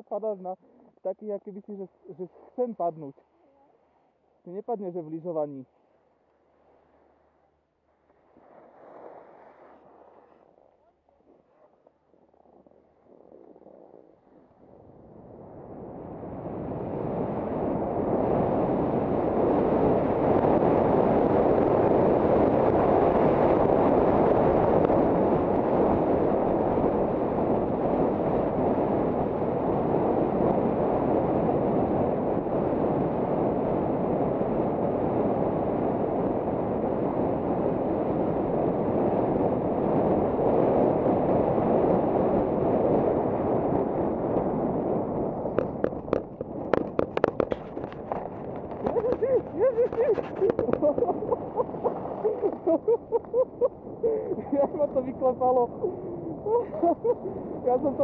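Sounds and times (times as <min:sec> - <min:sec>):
wind buffeting camera microphone: 0:08.0 - 0:58.0.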